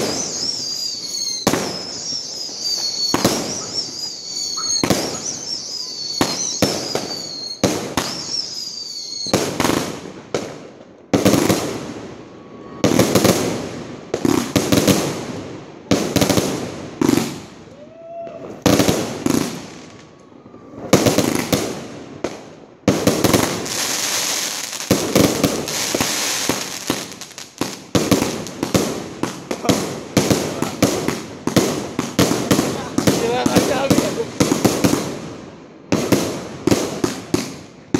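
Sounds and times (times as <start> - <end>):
fireworks bangs: 0.0 - 37.9
fireworks crackling: 0.0 - 37.9
fireworks falling whistles: 0.0 - 37.9.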